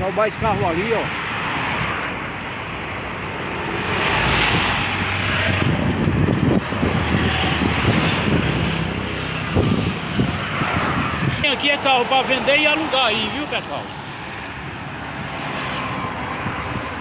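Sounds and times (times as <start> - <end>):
car and truck engines: 0.0 - 17.0
tyres on asphalt: 0.0 - 17.0.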